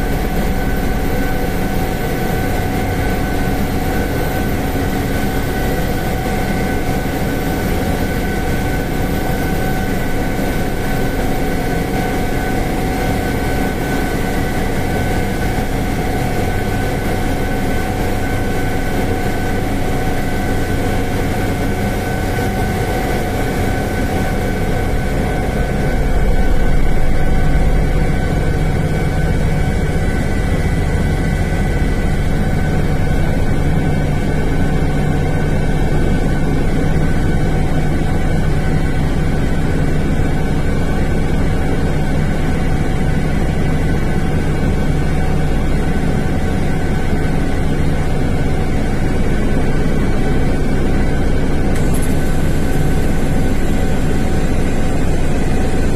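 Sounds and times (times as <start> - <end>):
helicopter rotor rumble: 0.0 - 55.9
turbine engine whine: 0.0 - 55.9.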